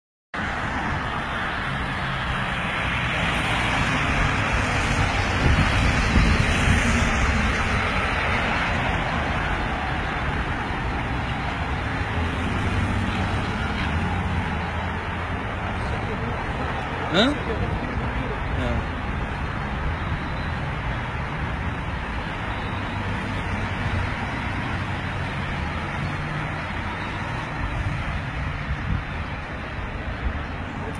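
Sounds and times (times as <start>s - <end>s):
cars driving past: 0.4s - 30.9s.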